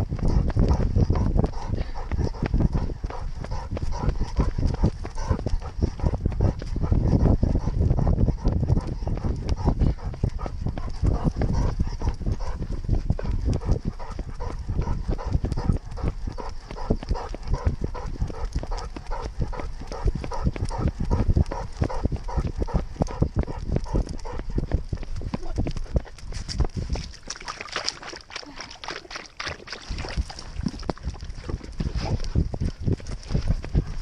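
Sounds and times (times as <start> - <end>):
wind and handling rumble: 0.0 - 28.6, 29.3 - 34.0
dog footfalls on trail: 0.0 - 34.0.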